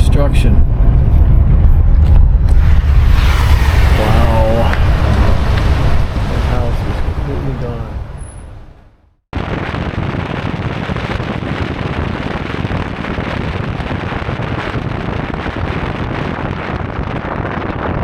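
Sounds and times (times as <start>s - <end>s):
deep rumble: 0.0s - 18.0s
wind buffeting microphone: 0.0s - 18.0s.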